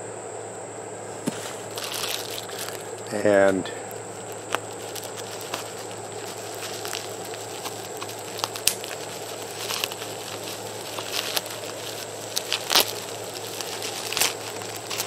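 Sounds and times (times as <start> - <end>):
packaging crinkling: 1.3 - 15.0.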